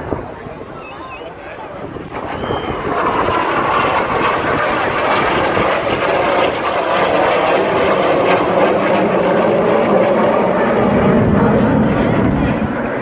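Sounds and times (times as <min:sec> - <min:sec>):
jet engines passing low: 0:00.0 - 0:13.0.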